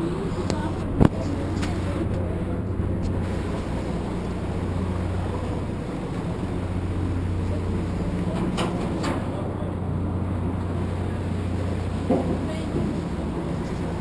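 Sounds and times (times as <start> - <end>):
boat engine low drone: 0.0 - 14.0.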